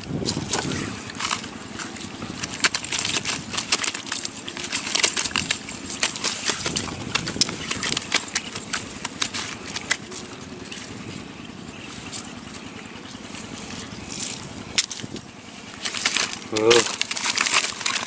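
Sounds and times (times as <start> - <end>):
wire net tapping and rustling: 0.0 - 11.1, 14.1 - 18.0
fish flapping: 0.0 - 12.4, 13.5 - 18.0.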